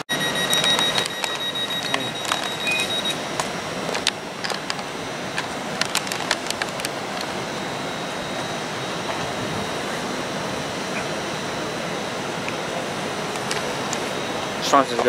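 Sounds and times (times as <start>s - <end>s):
thin high tone: 0.0s - 15.0s
train running noise: 0.0s - 15.0s.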